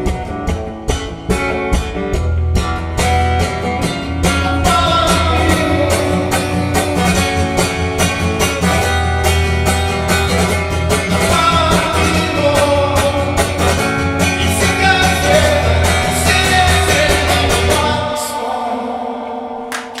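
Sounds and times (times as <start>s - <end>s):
live rock band playing: 0.0s - 18.2s
electric guitar: 0.0s - 20.0s.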